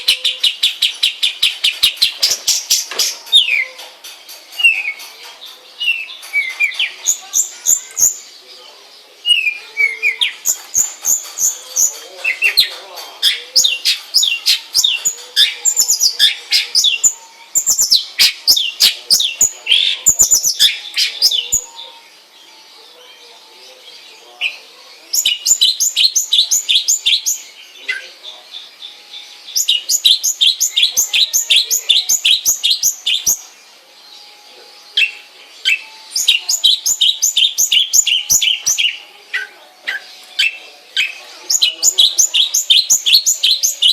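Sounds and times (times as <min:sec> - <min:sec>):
bird singing high chirps: 0:04.5 - 0:43.9.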